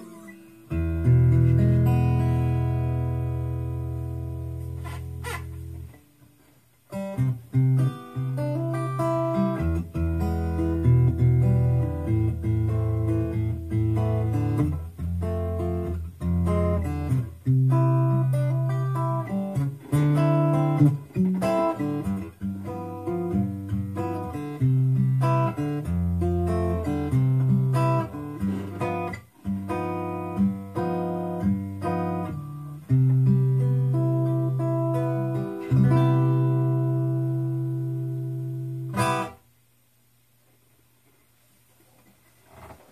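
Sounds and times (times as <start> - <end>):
fingerpicked acoustic guitar: 0.0 - 39.6.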